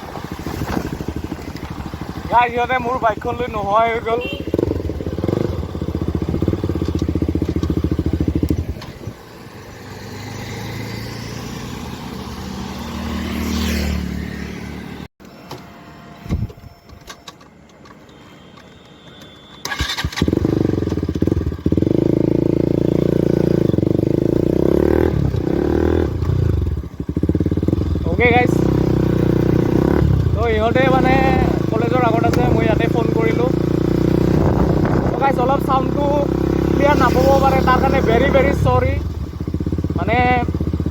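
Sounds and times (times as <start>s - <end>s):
motorcycle engine through loud exhaust: 0.0s - 15.1s, 19.6s - 40.9s.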